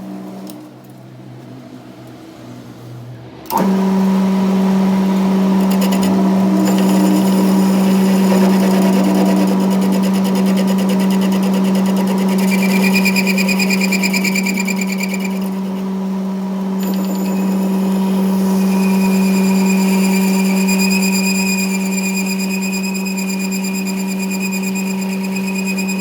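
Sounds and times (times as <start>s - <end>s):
machine motor humming: 0.0s - 22.3s.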